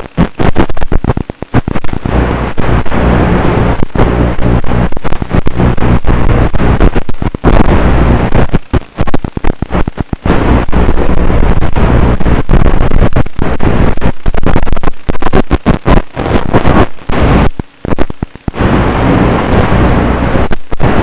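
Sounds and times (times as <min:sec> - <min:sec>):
distorted rushing noise: 0:00.0 - 0:21.0
low buzz: 0:00.0 - 0:21.0.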